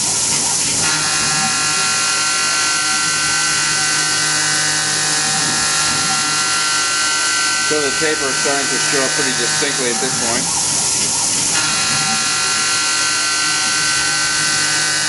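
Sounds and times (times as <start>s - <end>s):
milling spindle whine: 0.0s - 15.0s.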